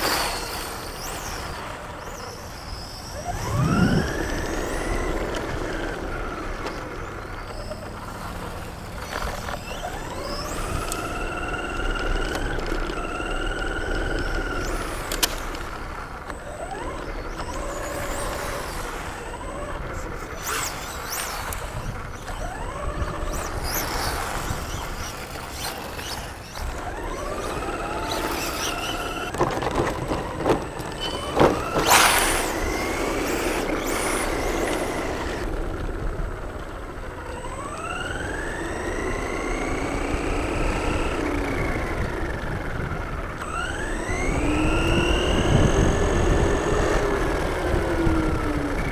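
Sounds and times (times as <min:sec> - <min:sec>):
model car motor whining: 0:00.0 - 0:48.9.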